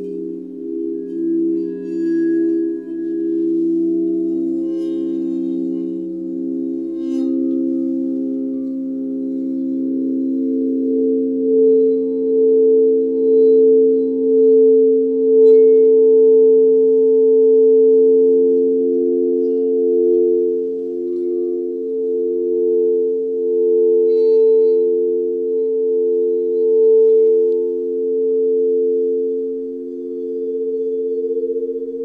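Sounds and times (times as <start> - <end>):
singing bowls sustained tones: 0.0 - 32.0.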